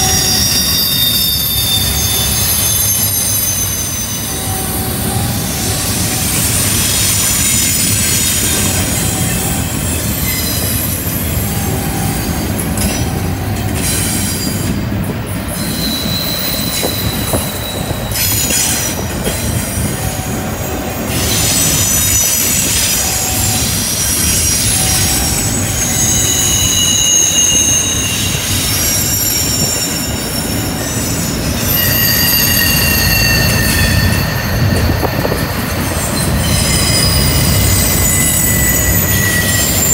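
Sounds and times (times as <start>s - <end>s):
train wheels rumbling on rail: 0.0s - 39.9s
wheel flanges squealing: 0.0s - 39.9s.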